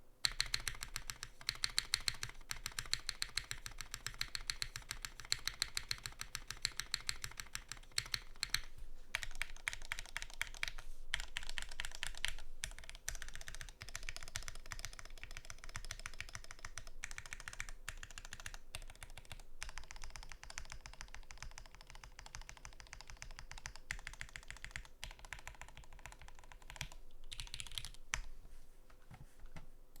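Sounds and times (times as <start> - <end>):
typing on mechanical keyboard: 0.2 - 28.3.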